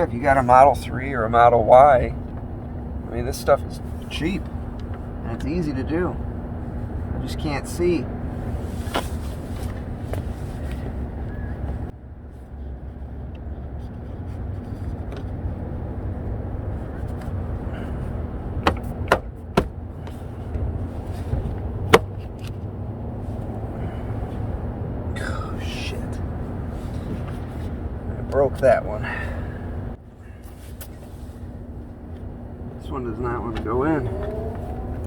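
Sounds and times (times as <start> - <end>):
low rumble with faint hum: 0.0 - 35.0.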